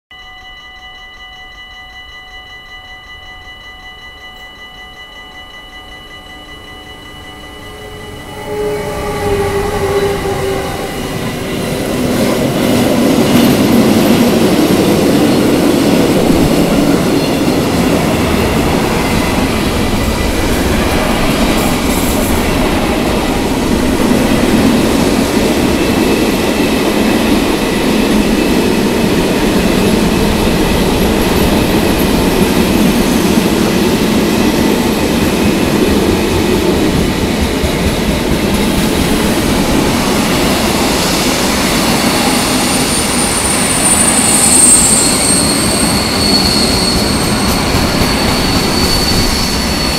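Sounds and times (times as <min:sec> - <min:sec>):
level crossing warning bell: 0:00.1 - 0:49.9
train wheel squeal: 0:00.1 - 0:49.9
electric locomotive passing: 0:00.2 - 0:49.9.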